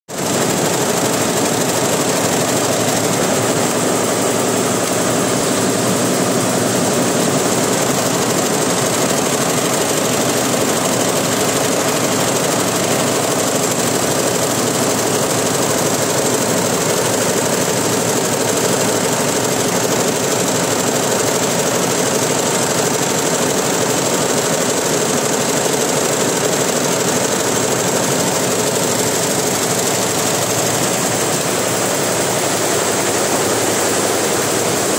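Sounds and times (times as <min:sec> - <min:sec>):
embroidery machine clattering: 0:00.2 - 0:34.9.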